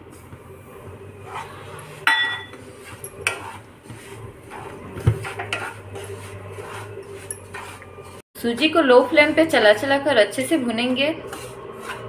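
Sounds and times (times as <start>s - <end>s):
wooden spatula scraping a pan: 1.1s - 12.0s.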